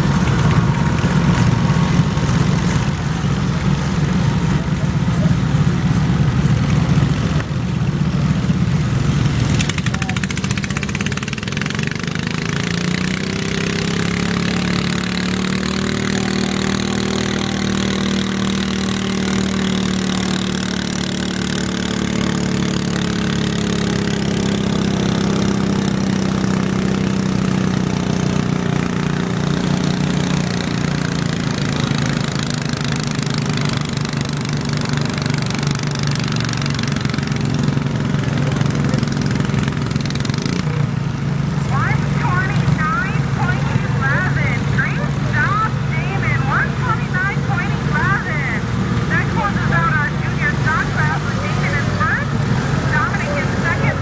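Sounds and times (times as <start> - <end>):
garden tractor engine revving: 0.0 - 54.0.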